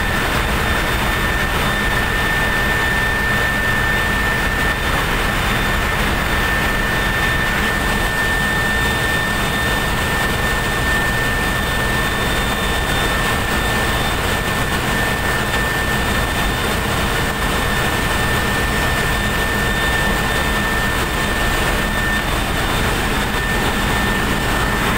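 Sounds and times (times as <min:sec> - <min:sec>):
high whine: 0:00.0 - 0:24.9
machinery drone: 0:00.0 - 0:24.9.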